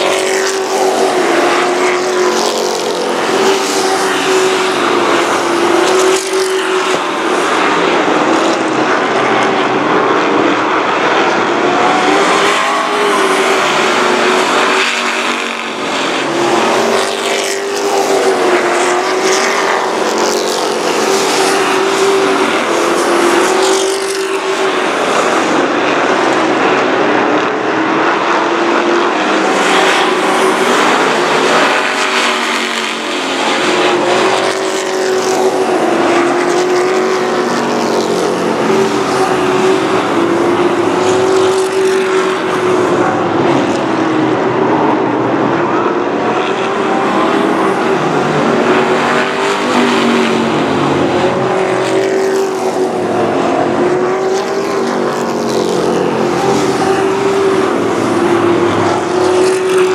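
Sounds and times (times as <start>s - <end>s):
race truck engines droning: 0.0s - 59.9s.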